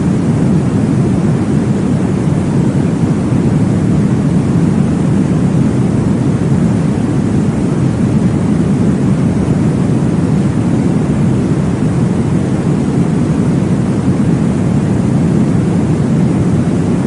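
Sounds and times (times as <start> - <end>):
deep whooshing white noise: 0.0 - 17.0.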